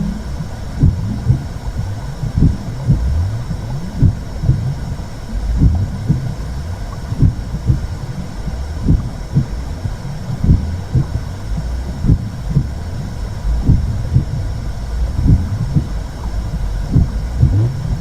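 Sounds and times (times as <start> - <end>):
deep whooshing rumble: 0.0 - 18.0
faint steady hiss: 0.0 - 18.0
heartbeat-like pulses: 0.0 - 18.0.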